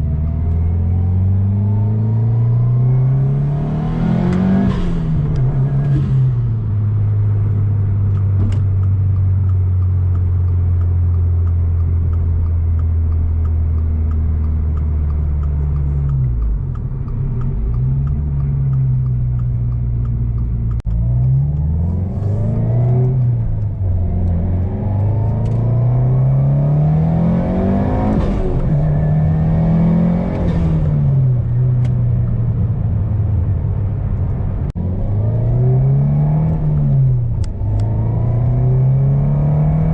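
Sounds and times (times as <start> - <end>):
turbocharged car engine accelerating: 0.0 - 39.9.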